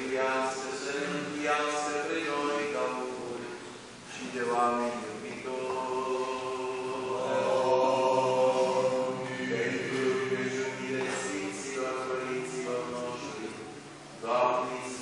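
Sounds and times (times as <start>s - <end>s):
men chanting liturgy: 0.0s - 15.0s.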